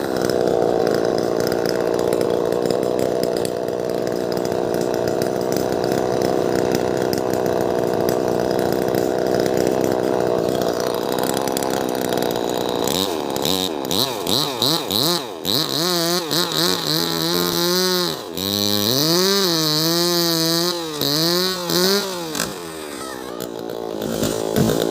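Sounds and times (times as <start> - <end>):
chainsaw cutting tree trunk: 0.0 - 24.9.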